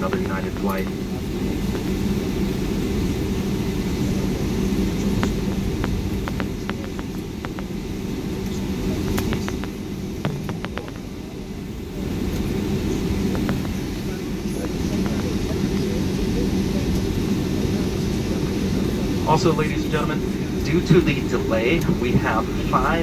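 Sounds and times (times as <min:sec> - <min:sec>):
aircraft cabin rumble: 0:00.0 - 0:23.0
steady hum: 0:00.0 - 0:23.0.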